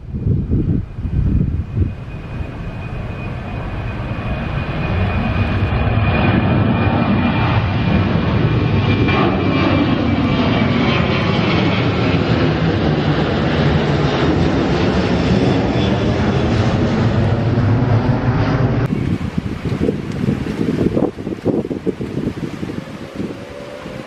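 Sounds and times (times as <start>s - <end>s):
airliner engines roaring: 0.0s - 24.0s
gusty noise: 0.0s - 24.0s.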